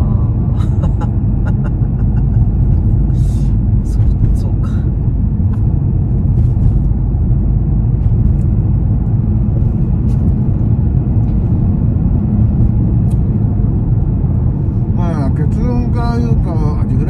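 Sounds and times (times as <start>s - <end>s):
minivan road and engine rumble: 0.0s - 17.0s.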